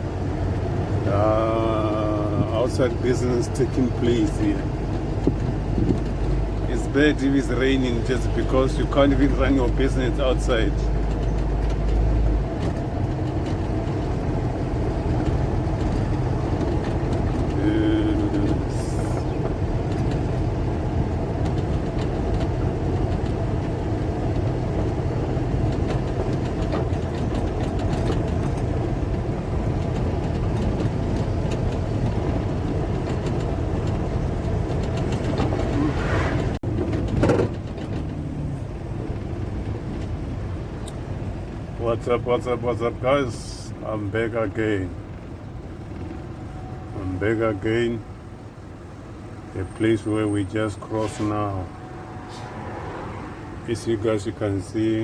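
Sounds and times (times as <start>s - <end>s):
car engine: 0.0s - 55.0s
road noise: 0.0s - 55.0s.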